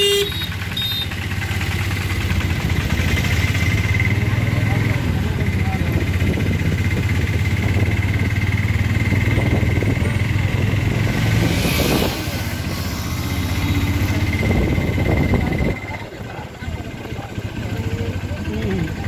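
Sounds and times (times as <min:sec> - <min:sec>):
auto-rickshaw engine running: 0:00.0 - 0:19.0.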